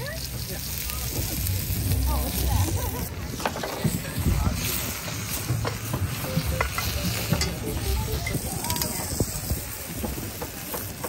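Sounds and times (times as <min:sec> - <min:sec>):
mushrooms sizzling in skillet: 0:00.0 - 0:11.0.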